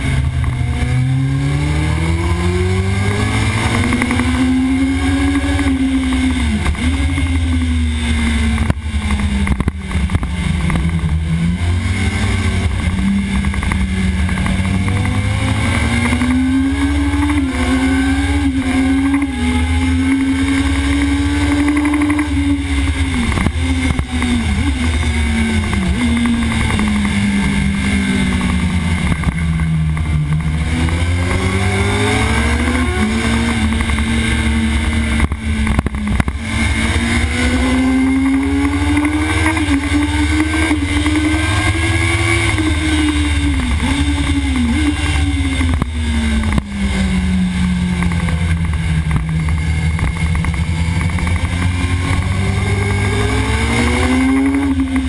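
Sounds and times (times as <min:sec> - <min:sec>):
motorcycle engine at racing speed: 0:00.0 - 0:55.0.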